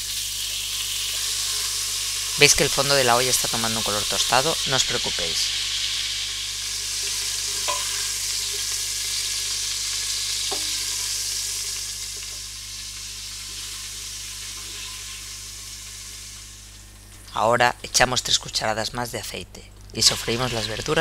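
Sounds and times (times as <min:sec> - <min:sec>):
meat sizzling in oil: 0:00.0 - 0:18.4, 0:20.0 - 0:21.0.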